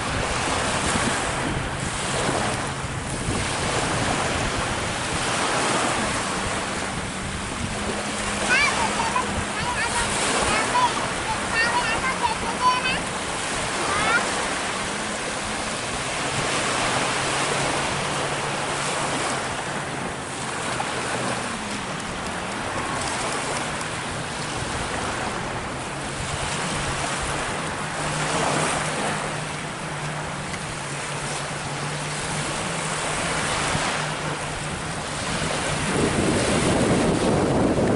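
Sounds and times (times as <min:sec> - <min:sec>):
surf washing in: 0:00.0 - 0:37.9
watercraft engine hum: 0:00.0 - 0:37.9.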